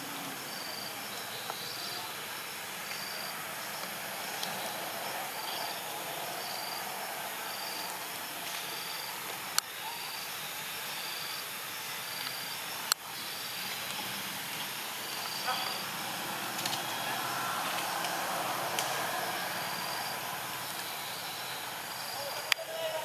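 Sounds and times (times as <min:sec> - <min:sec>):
insect chirping: 0:00.0 - 0:23.0
steady hiss: 0:00.0 - 0:23.0.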